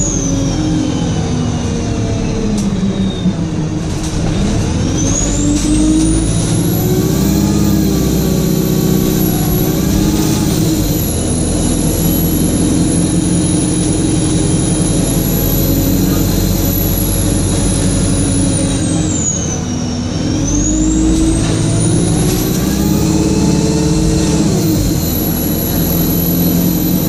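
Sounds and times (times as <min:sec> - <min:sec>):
bus diesel engine running: 0:00.0 - 0:27.0
turbocharger whine: 0:00.0 - 0:27.0.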